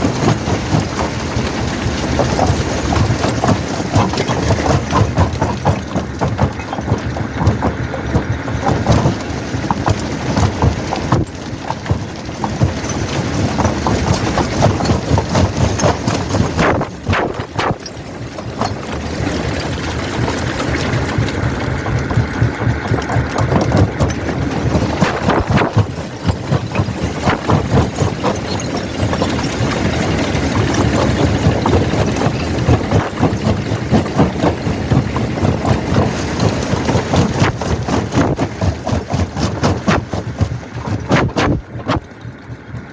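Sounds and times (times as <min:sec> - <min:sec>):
rock crusher rumbling: 0:00.0 - 0:42.9.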